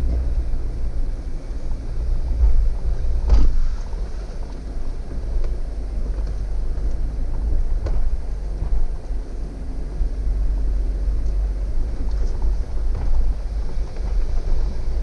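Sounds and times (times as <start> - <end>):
vehicle crawling over rock: 0.0 - 15.0.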